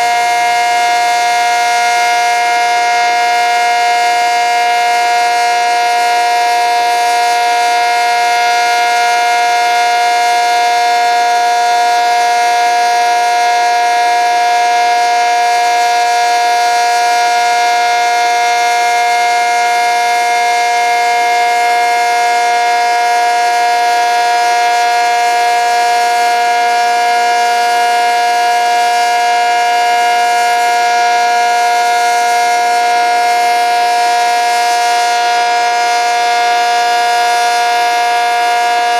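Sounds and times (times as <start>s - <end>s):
steady warning siren chord: 0.0s - 38.9s.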